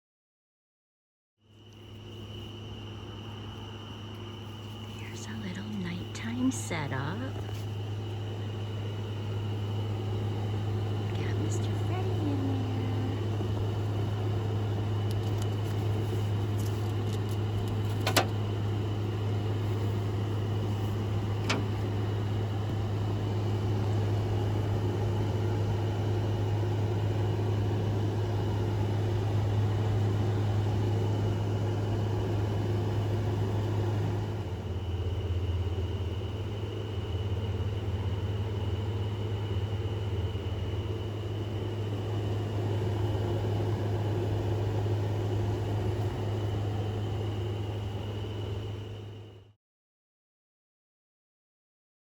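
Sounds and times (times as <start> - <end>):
air conditioner humming: 1.4 - 49.5.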